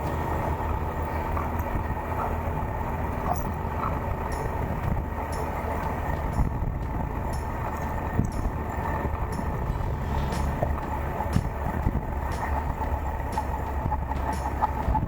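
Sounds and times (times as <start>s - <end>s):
motorcycle engine droning: 0.0s - 15.0s
road noise: 0.0s - 15.0s.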